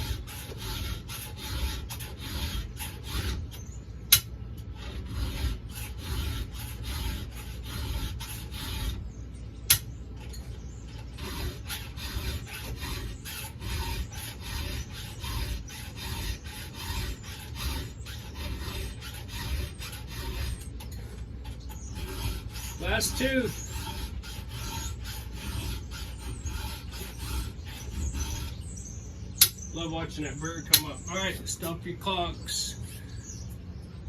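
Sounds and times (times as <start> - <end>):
file rasping on saw chain: 0.0 - 9.1, 9.7 - 31.8.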